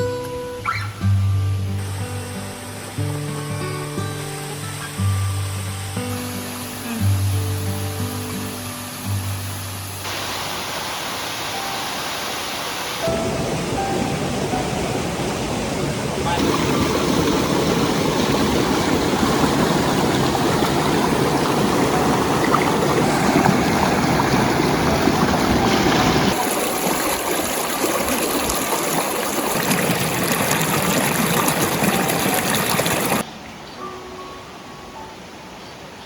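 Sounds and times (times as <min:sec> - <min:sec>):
stream water rushing: 0:00.8 - 0:36.0.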